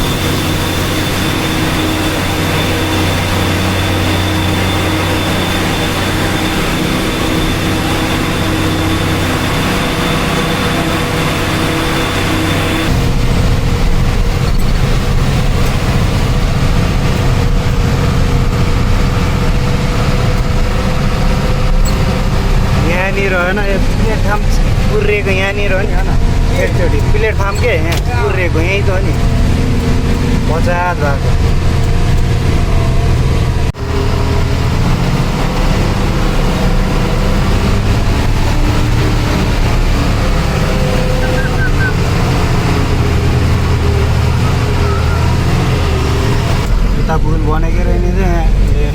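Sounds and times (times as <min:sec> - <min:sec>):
road noise: 0:00.0 - 0:48.9
truck engine rumble: 0:00.0 - 0:48.9.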